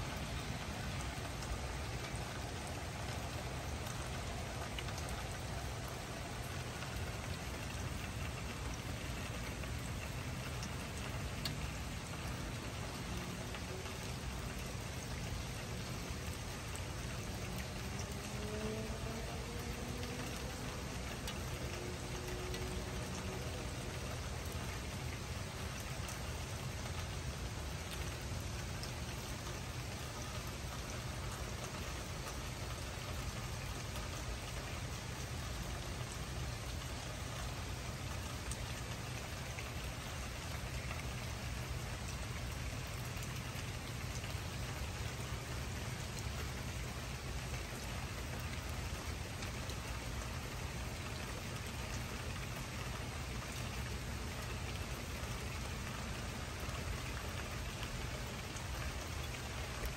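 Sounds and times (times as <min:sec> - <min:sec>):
rain falling on wet ground: 0:00.0 - 0:59.9.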